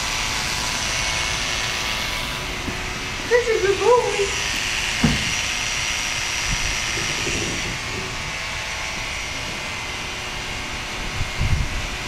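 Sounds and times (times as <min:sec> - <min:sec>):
electric clippers buzzing: 0:00.0 - 0:12.0.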